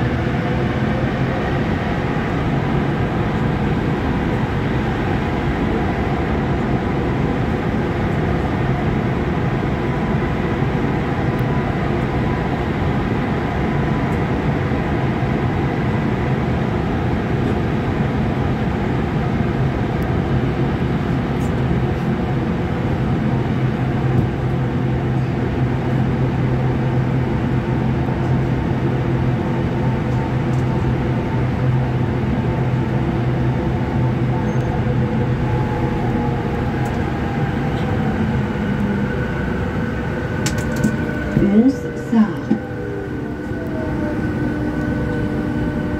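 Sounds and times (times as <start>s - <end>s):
low motor hum: 0.0s - 45.9s
metro train rumbling in tunnel: 0.0s - 45.9s.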